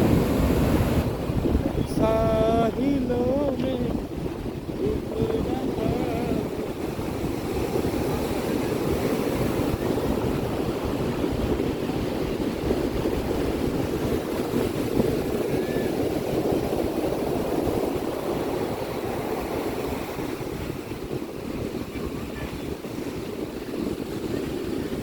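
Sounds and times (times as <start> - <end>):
sea waves breaking on shore: 0.0 - 25.0.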